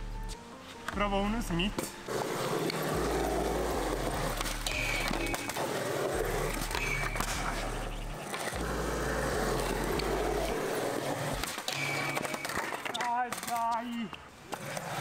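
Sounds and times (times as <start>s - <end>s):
skateboard wheels rolling on concrete: 0.0s - 15.0s.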